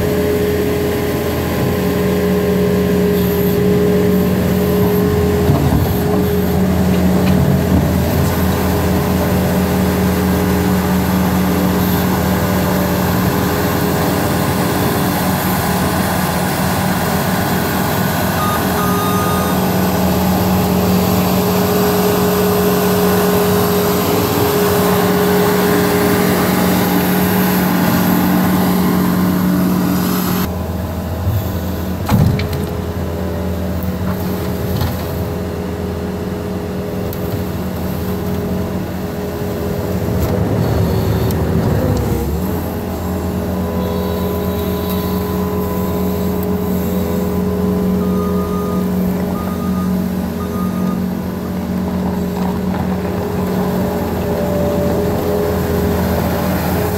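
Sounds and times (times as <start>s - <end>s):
skid steer diesel engine running: 0.0s - 56.9s.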